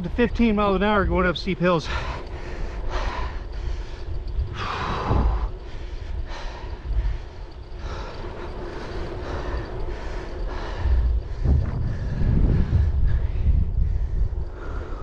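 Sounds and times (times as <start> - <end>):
bicycle tyres rumbling on road: 0.0 - 15.0
wind buffeting microphone: 0.0 - 15.0.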